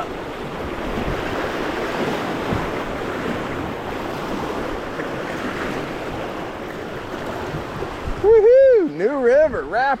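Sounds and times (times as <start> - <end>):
whitewater rushing and splashing: 0.0 - 10.0.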